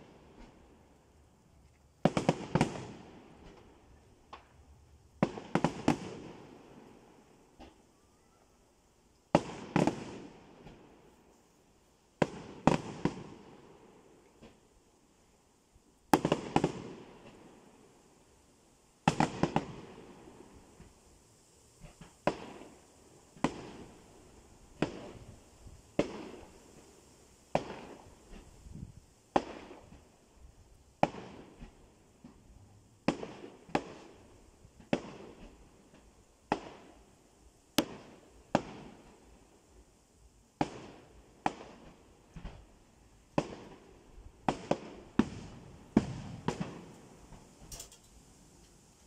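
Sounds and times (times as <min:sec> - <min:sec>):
fireworks bursting with sharp bangs: 0:00.0 - 0:49.0.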